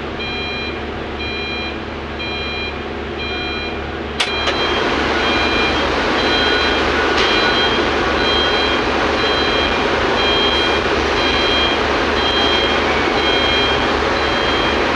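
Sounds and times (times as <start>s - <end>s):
diesel engine running: 0.0s - 14.9s
backup alarm beeping: 0.2s - 14.9s.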